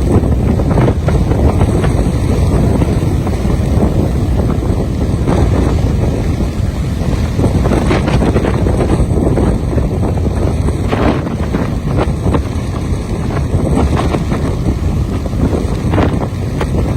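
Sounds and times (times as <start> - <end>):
rough choppy sea: 0.0 - 16.9
wind buffeting microphone: 0.0 - 16.9.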